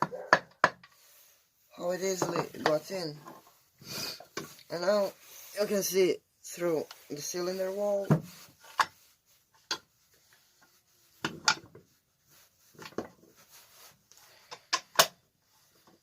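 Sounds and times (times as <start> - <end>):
faint rubbing: 1.0 - 14.5.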